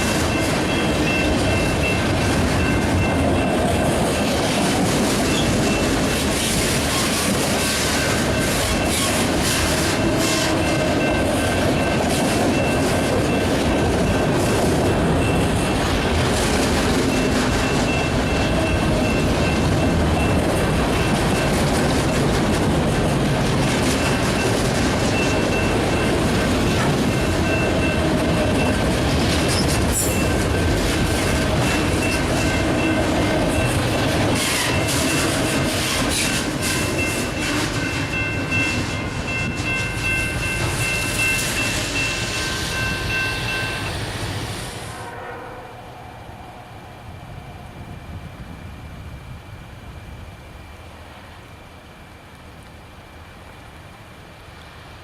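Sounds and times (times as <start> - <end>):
train wheels rumbling and clattering: 0.0 - 45.2.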